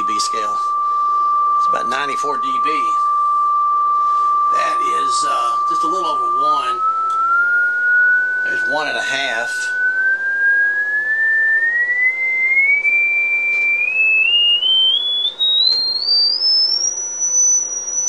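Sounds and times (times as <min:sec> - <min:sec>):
rising pure test tone: 0:00.0 - 0:18.0.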